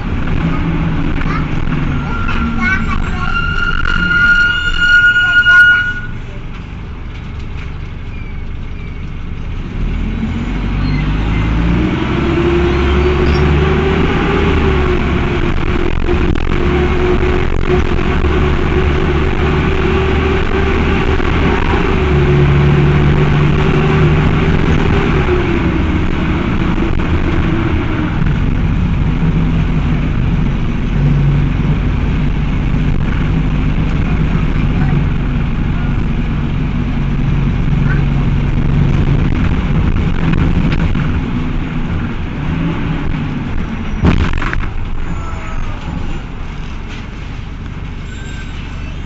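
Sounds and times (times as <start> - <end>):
diesel bus engine running: 0.0 - 49.0.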